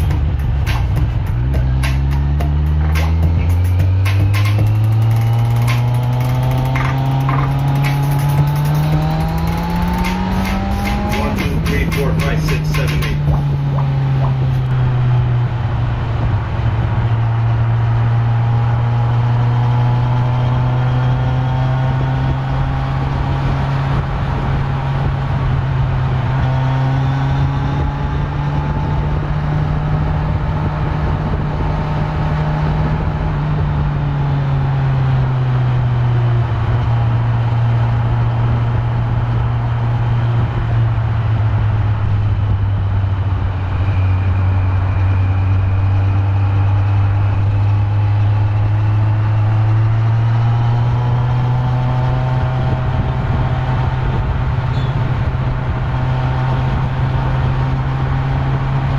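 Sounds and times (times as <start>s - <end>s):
motorcycle engine running: 0.0s - 58.9s
wind and road noise: 0.0s - 58.9s.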